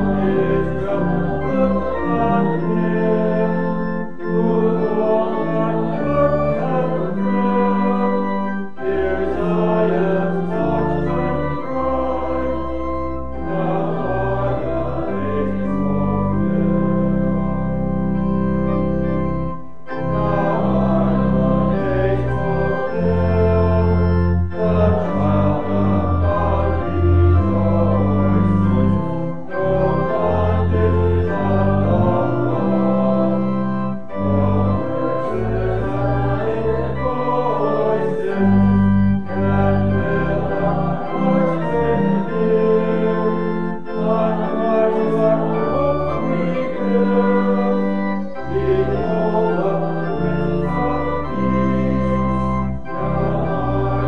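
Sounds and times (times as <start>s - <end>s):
church organ playing chords: 0.0s - 54.0s.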